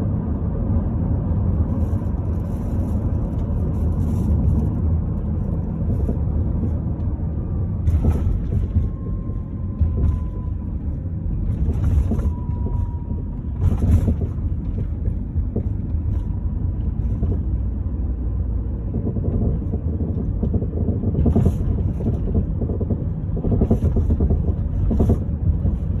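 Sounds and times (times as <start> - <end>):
road rumble: 0.0 - 26.0.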